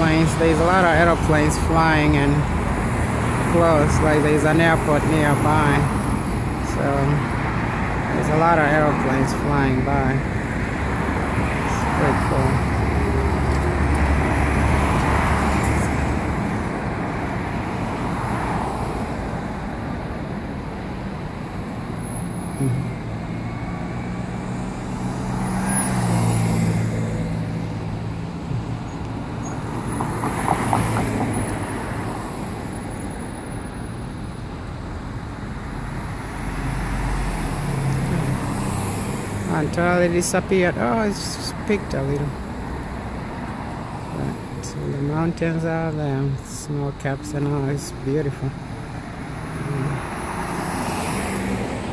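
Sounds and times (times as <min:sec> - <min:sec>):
cars passing: 0:00.0 - 0:51.9
engine hum: 0:00.0 - 0:51.9
traffic noise: 0:00.0 - 0:51.9.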